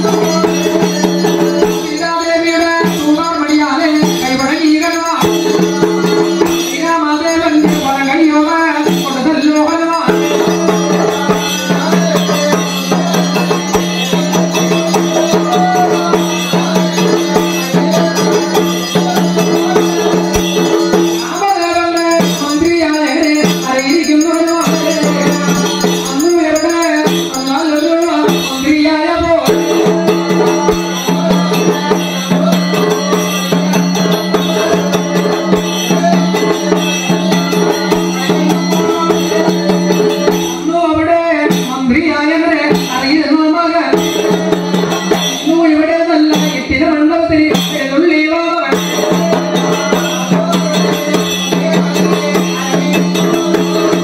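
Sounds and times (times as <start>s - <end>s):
person singing: 0.0s - 54.0s
shaken metal percussion: 0.0s - 54.0s.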